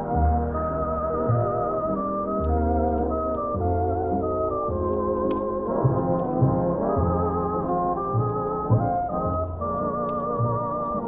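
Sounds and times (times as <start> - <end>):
faint fireplace crackles: 0.0 - 11.0
muffled instrumental oldies music: 0.0 - 11.0.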